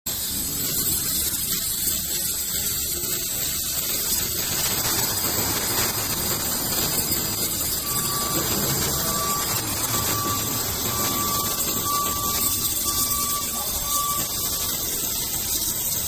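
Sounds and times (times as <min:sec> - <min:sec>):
laser welder hissing: 0:00.1 - 0:16.0.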